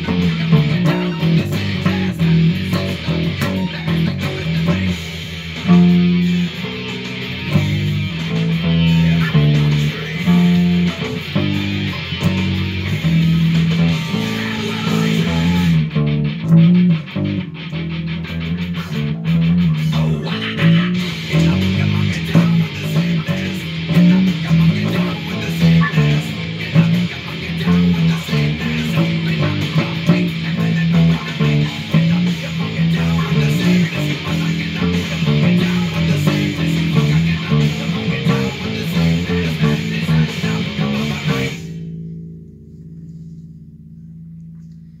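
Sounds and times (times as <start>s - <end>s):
rock band playing: 0.0s - 41.9s
electric bass playing: 0.0s - 45.0s.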